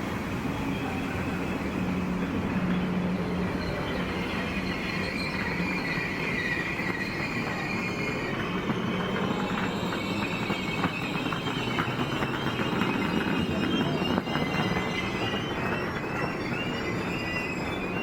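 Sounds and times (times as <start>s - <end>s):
train wheels squealing on rails: 0.0s - 18.0s.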